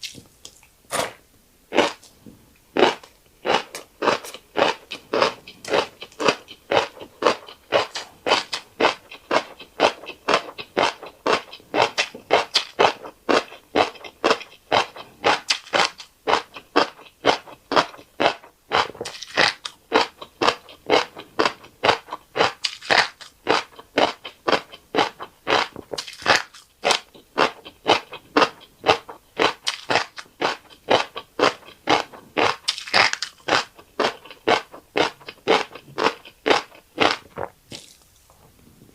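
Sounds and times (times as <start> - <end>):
crunchy chewing: 0.0 - 38.6.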